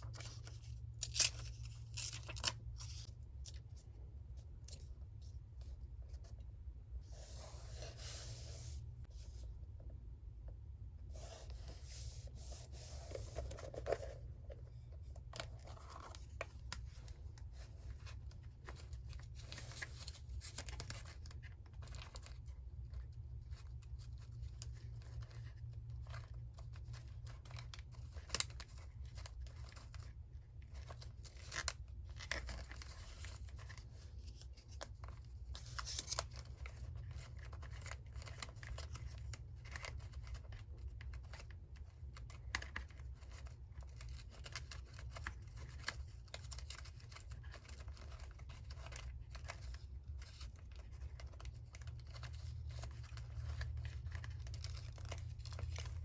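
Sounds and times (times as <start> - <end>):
paper rustling: 11.2 - 56.0.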